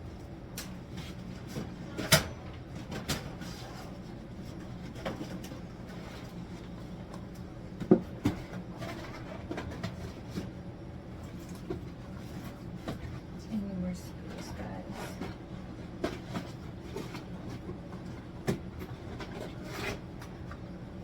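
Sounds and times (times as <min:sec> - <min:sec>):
steady low hum: 0:00.0 - 0:21.0
groceries knocking and clunking: 0:00.6 - 0:13.3, 0:14.3 - 0:20.7.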